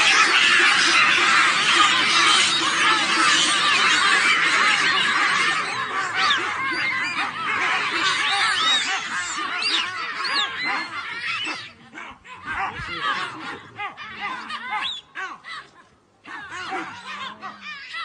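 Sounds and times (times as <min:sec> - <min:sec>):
high-pitched animal calls: 0:00.0 - 0:18.0.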